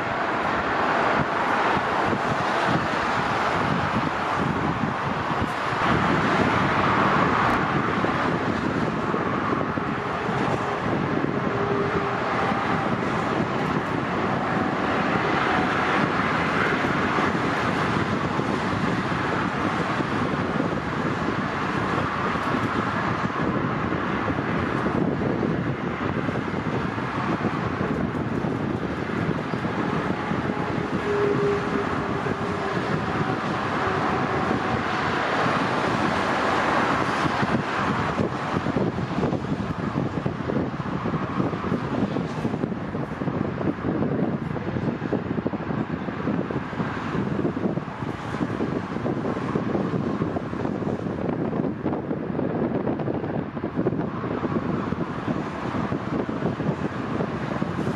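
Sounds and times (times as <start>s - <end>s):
jet engines taxiing: 0.0s - 57.9s
motorway traffic roar: 0.0s - 57.9s.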